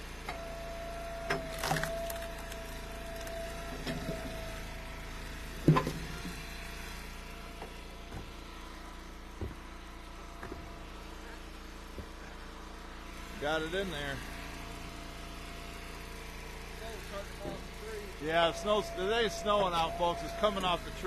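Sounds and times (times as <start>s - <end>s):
wood splitter engine hum: 0.0s - 21.0s.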